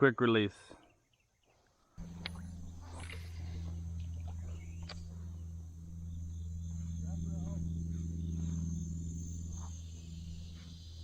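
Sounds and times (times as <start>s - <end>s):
insects trilling: 2.0s - 11.0s
low hum: 2.0s - 11.0s.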